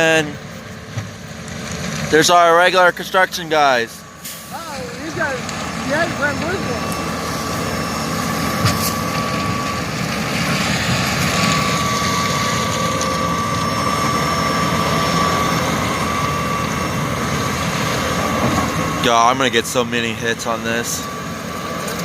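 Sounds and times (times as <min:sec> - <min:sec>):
heavy machinery engine rumbling: 0:00.0 - 0:22.0.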